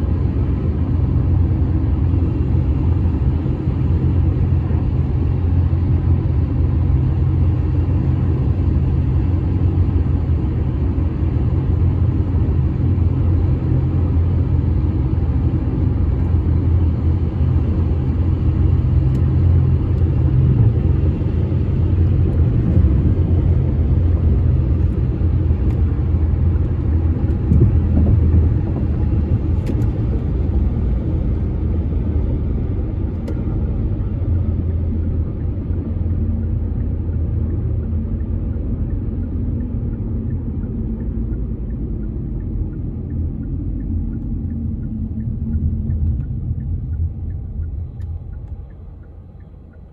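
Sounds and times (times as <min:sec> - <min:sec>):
car road noise rumble: 0:00.0 - 0:49.9.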